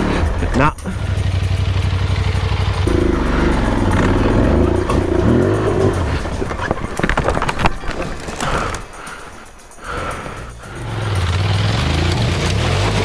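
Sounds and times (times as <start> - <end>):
motorcycle engine revving: 0.0 - 8.9, 10.6 - 13.0
rapid knocks and clatter: 0.0 - 13.0.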